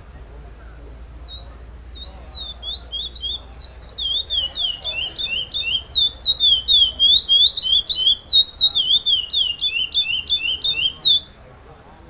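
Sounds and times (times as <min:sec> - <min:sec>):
finch singing whistled notes: 0:01.2 - 0:11.4.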